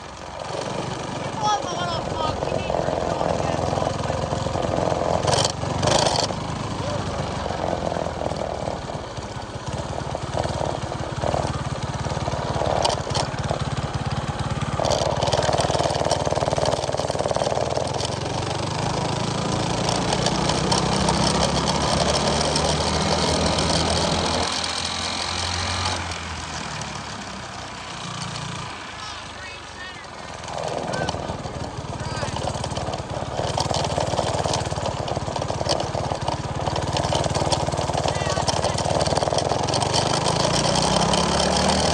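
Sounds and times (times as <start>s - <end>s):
minibike engine revving: 0.0s - 41.9s.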